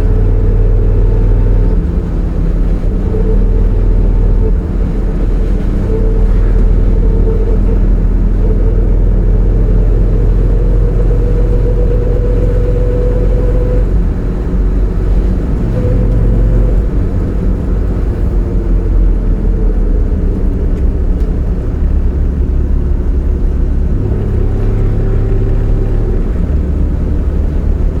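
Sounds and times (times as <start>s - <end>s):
car engine rumble: 0.0s - 28.0s
drivetrain whine: 0.0s - 28.0s.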